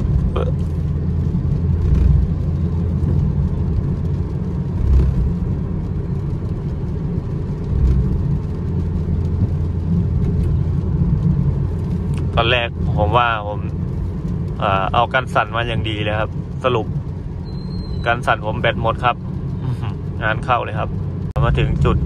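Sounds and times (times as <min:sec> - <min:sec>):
road and engine rumble in car: 0:00.0 - 0:22.0.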